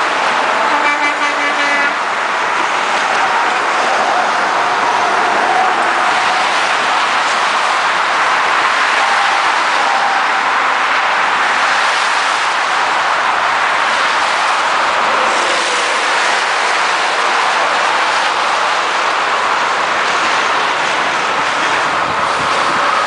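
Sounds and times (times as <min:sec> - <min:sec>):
highway traffic rushing past: 0:00.0 - 0:23.0.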